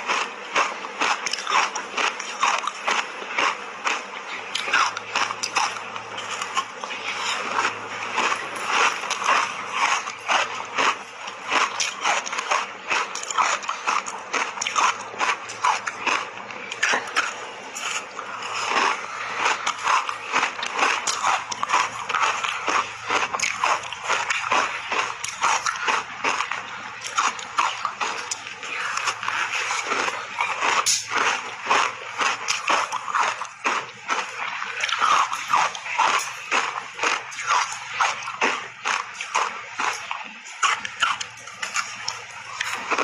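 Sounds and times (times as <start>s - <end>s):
chewing crunchy ice: 0.0s - 43.0s.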